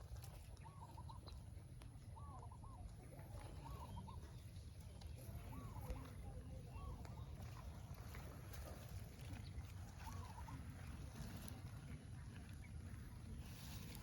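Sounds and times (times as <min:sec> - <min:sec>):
bird calling faintly: 0:00.1 - 0:14.0.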